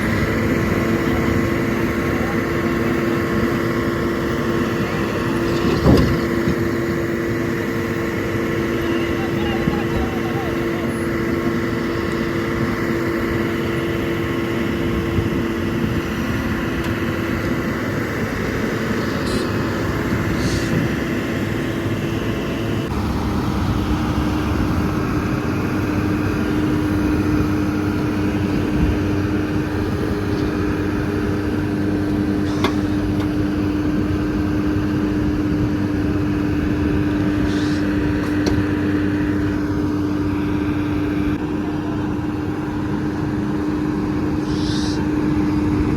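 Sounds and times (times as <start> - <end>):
heavy vehicle engine running: 0.0 - 45.9.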